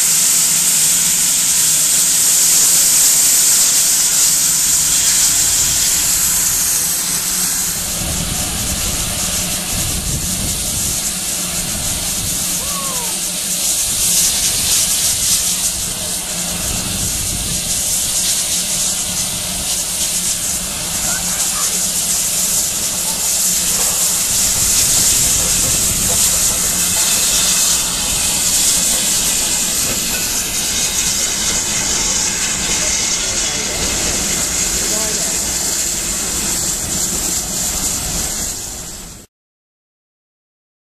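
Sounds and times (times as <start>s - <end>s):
steam locomotive hissing: 0.0s - 39.3s.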